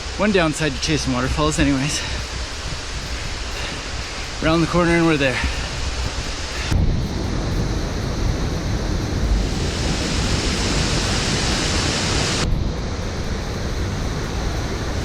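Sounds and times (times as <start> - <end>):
waterfall rushing: 0.0 - 14.1
wind rumble on microphone: 0.0 - 15.0.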